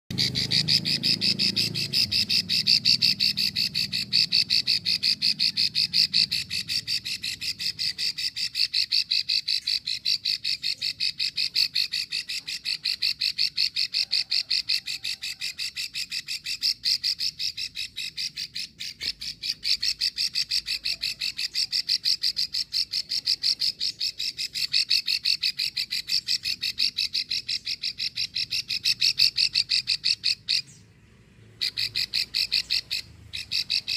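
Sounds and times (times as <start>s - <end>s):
bird rattling call: 0.1s - 30.8s, 31.6s - 33.9s.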